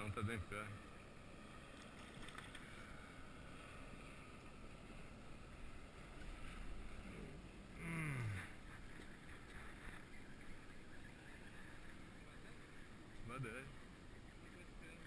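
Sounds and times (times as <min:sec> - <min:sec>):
light wind: 0:00.0 - 0:15.0.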